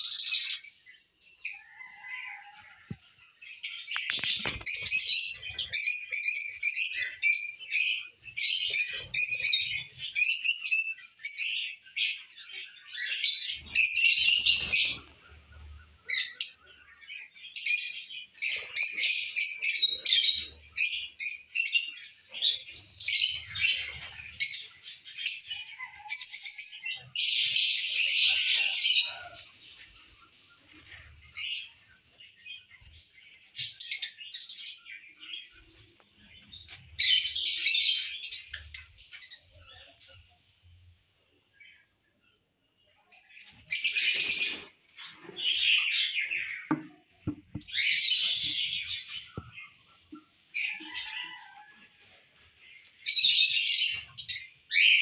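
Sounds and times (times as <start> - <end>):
birds chirping: 0.0 - 51.7.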